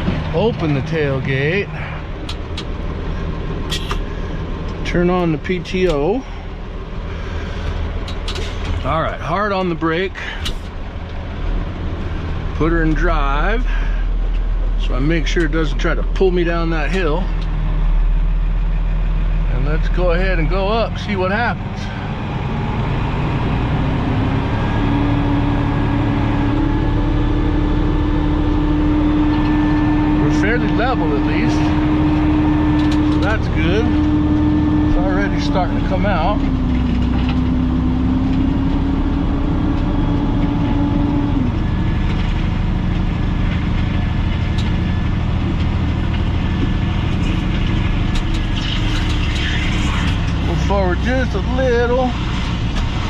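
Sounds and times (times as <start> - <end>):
truck engine under load: 0.0 - 53.0.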